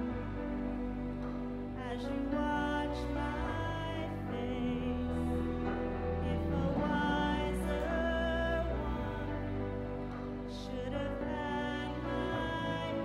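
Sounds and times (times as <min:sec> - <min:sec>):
sustained musical accompaniment: 0:00.0 - 0:13.0
woman singing with vibrato: 0:01.8 - 0:13.0.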